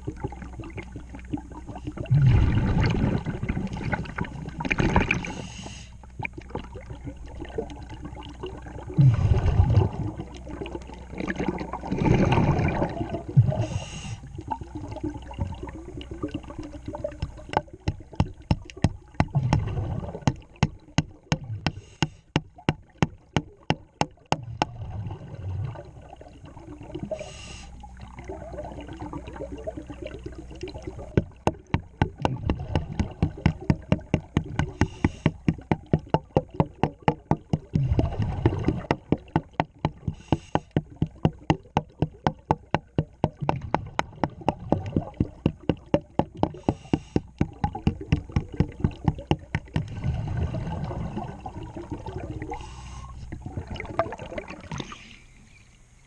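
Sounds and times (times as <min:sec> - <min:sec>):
regulator exhaust bubbles: 0:00.0 - 0:55.2
sharp regular clicks underwater: 0:00.0 - 0:55.9.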